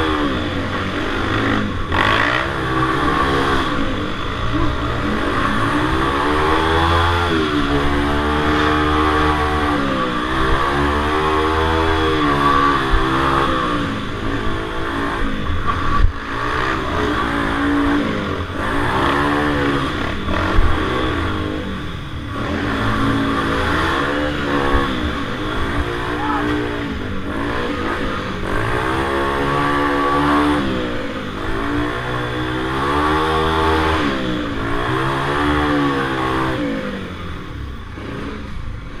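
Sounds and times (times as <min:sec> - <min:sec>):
minibike engines racing: 0:00.0 - 0:39.0.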